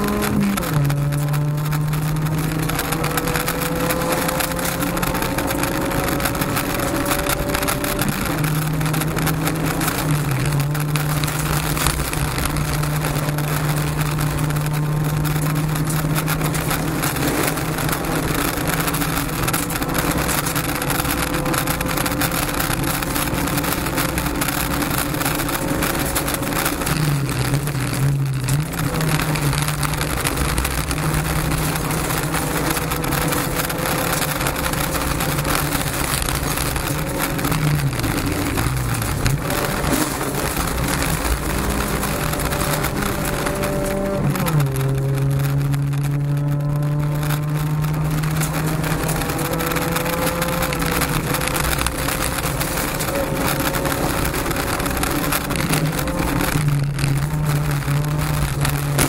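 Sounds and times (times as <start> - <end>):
car engine at high revs: 0.0 - 59.0
gravel crackling under car: 0.0 - 59.0.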